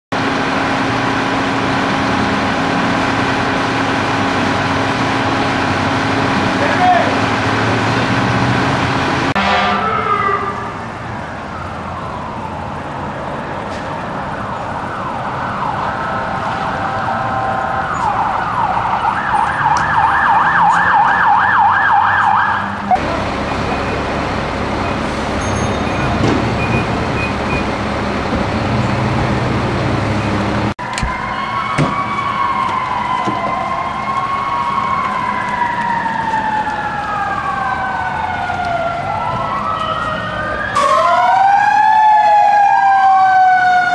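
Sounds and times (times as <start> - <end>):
emergency vehicle siren: 0.2 - 43.9.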